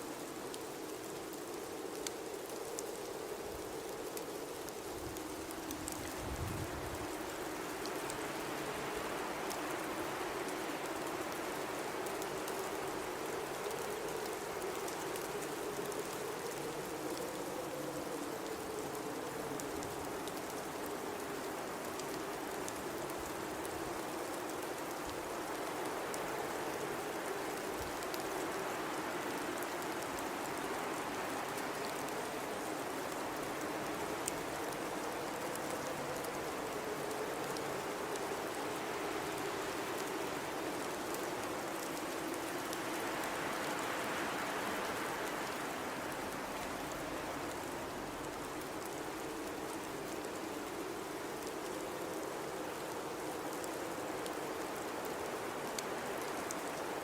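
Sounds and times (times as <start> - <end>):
blizzard wind blowing: 0.0 - 57.0
low moaning wind howl: 0.0 - 57.0
faint ticks: 0.1 - 57.0.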